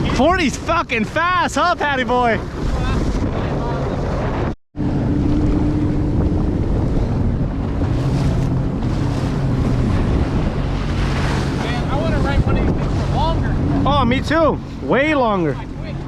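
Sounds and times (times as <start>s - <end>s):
jet ski engine running: 0.0s - 16.0s
water rushing: 0.0s - 16.0s
wind buffeting microphone: 0.0s - 16.0s.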